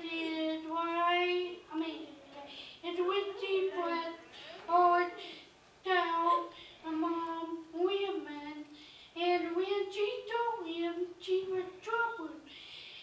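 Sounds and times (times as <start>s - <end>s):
girl speaking into a microphone: 0.0s - 12.5s.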